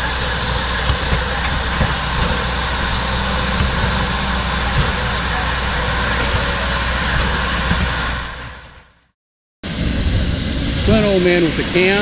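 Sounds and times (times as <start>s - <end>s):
locomotive low rumble: 0.0s - 9.1s, 9.7s - 12.0s
steam hissing: 0.0s - 9.1s, 9.7s - 12.0s.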